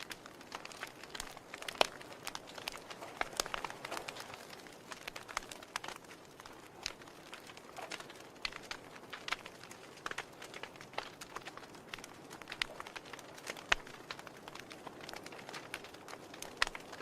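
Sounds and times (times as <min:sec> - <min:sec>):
logs crackling and popping in fire: 0:00.0 - 0:17.0
soft steady fire hiss: 0:00.0 - 0:17.0.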